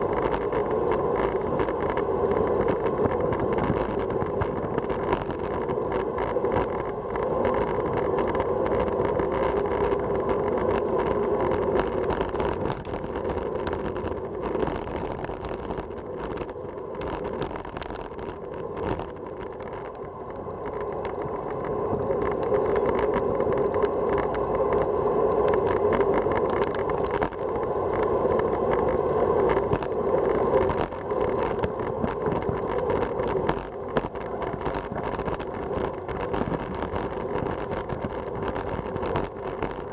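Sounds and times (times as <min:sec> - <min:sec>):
tyre noise on road: 0:00.0 - 0:39.9
wind rushing over microphone: 0:00.0 - 0:39.9.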